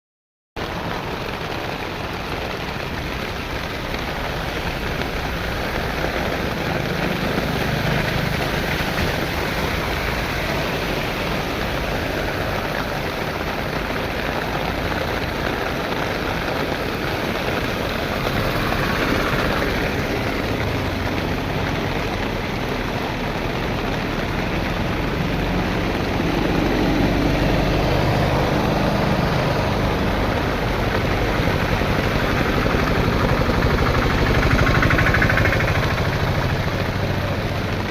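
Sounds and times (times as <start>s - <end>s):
heavy rain pouring: 0.6s - 37.9s.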